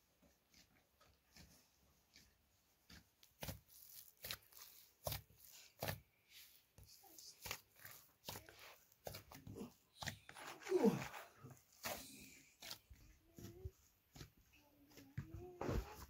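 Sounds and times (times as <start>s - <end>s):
bread dough slapping: 0.4s - 16.0s.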